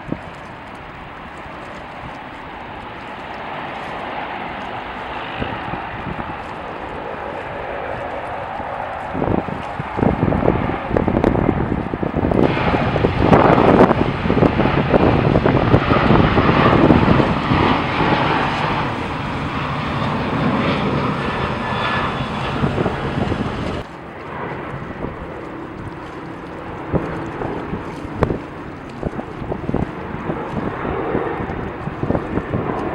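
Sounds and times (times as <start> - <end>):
airliner engines roaring: 0.0 - 32.9
wind noise on microphone: 0.0 - 32.9.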